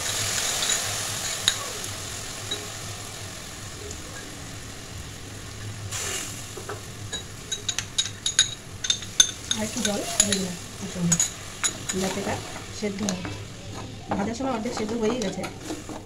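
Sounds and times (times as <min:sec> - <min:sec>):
liquid sizzling in hot oil: 0:00.0 - 0:16.0.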